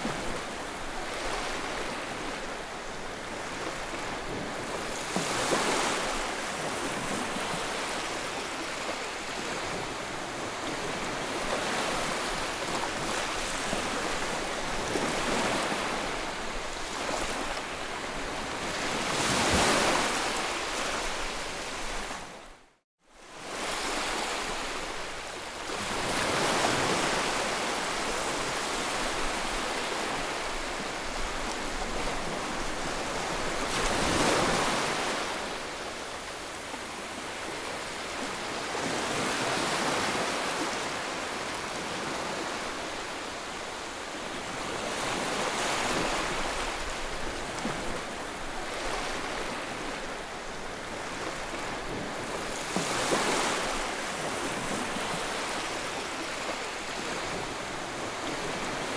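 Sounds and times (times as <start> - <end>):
ocean waves breaking: 0.0 - 22.4, 25.7 - 58.9.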